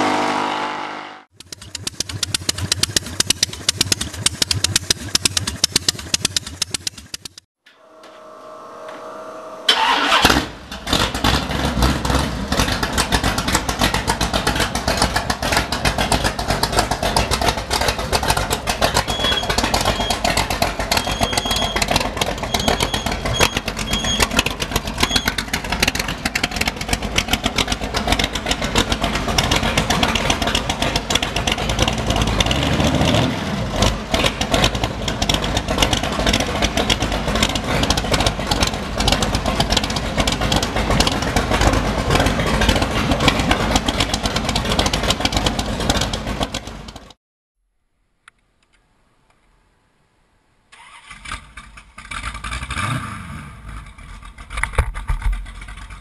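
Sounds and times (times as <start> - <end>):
motorcycle engine starting and idling: 1.2 - 47.2, 50.7 - 56.0.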